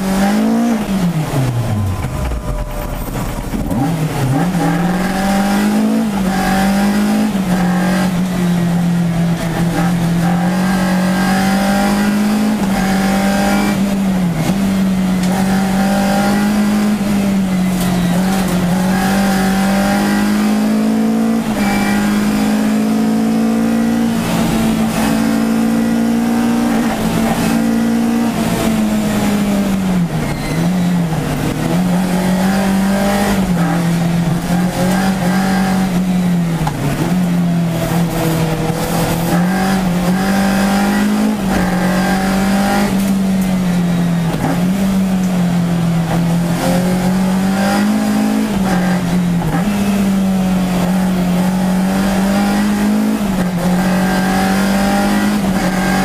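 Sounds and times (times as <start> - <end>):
car engine revving high: 0.0 - 56.0.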